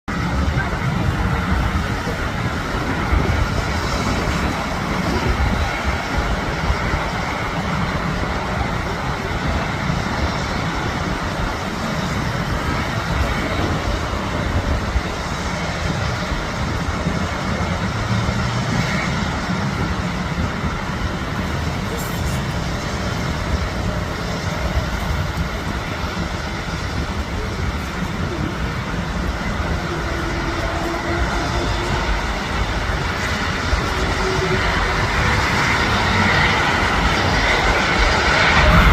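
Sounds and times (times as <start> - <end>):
jet engines roaring: 0.1 - 38.9.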